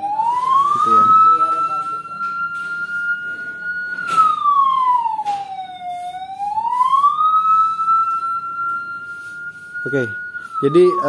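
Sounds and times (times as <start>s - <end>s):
electronic siren wailing: 0.0s - 11.0s.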